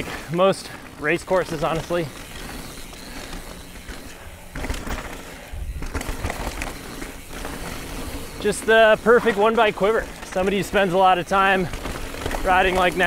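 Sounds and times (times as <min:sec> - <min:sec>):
bike rumbling and knocking: 0:00.0 - 0:13.0
freewheel hub ticking: 0:00.0 - 0:13.0
tyre noise on dirt: 0:00.0 - 0:13.0.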